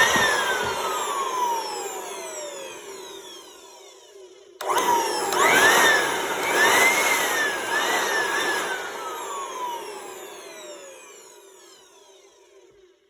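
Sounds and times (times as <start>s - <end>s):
electric leaf blower whining: 0.0s - 12.2s.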